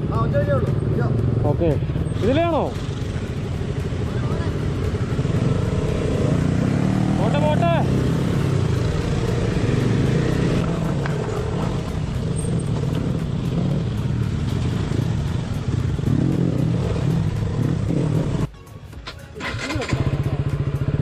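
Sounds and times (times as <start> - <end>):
motorcycle engine running: 0.0 - 18.5, 19.4 - 21.0.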